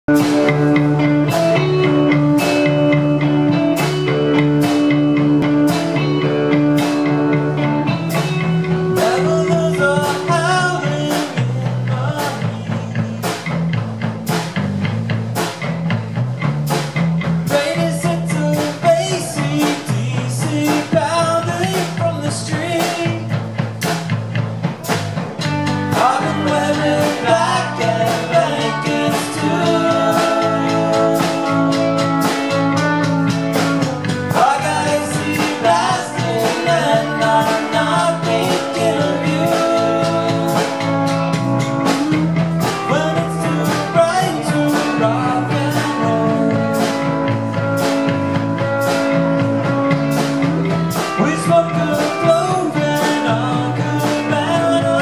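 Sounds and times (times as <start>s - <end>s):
drum kit with cymbal beat: 0.0s - 55.0s
electric bass: 0.0s - 55.0s
electric guitar: 0.0s - 55.0s.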